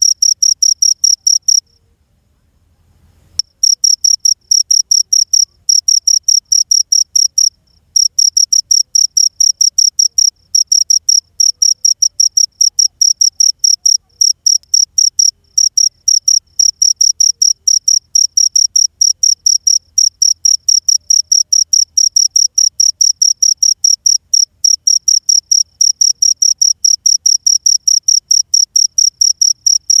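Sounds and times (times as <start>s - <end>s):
cricket chirping: 0.0s - 1.8s, 3.4s - 30.0s.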